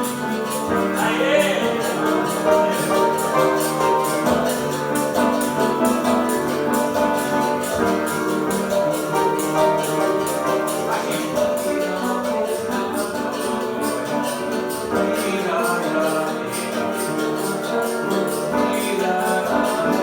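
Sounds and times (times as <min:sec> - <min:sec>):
berimbau: 0:00.0 - 0:20.0
piano: 0:00.0 - 0:20.0
shakers rhythm: 0:00.0 - 0:20.0.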